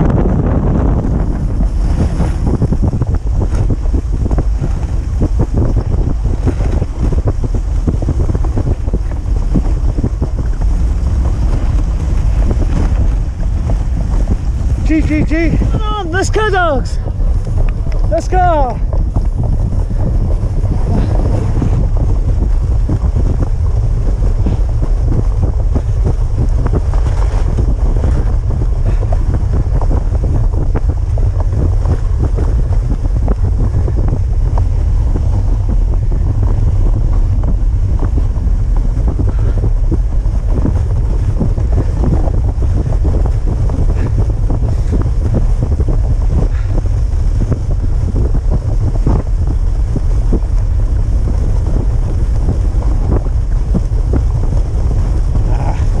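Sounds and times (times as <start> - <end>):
crackles over packed snow: 0.0 - 56.0
wind buffeting microphone: 0.0 - 56.0.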